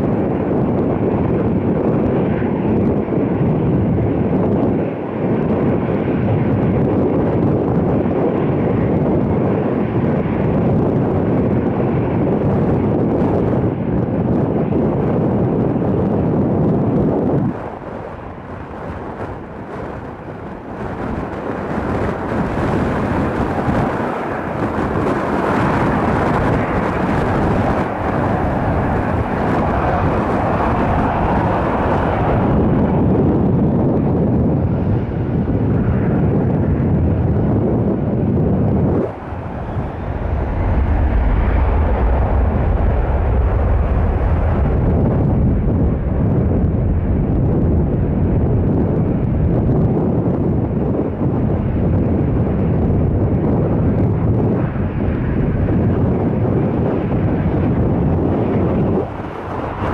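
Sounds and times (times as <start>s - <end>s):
jet airliner engine roar: 0.0s - 59.9s
wind on microphone: 0.0s - 59.9s.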